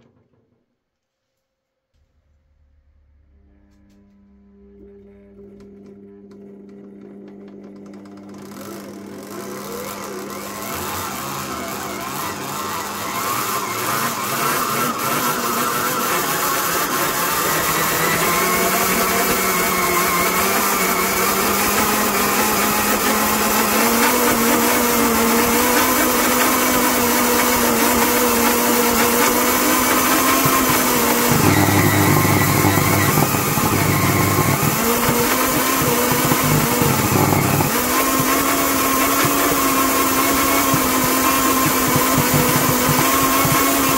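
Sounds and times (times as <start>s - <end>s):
stand mixer motor whining: 5.6s - 43.9s.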